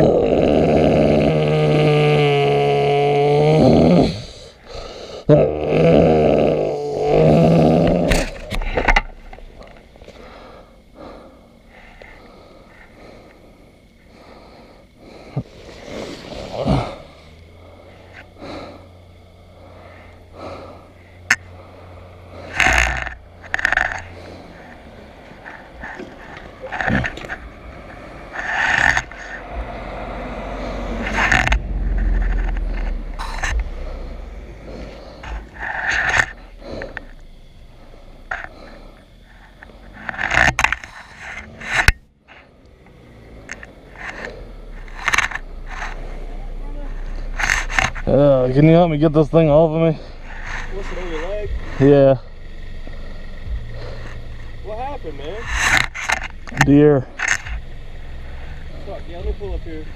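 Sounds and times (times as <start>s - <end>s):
person breathing heavily and groaning: 0.0s - 56.4s
irregular scraping and rustling: 8.0s - 52.0s, 52.6s - 59.9s.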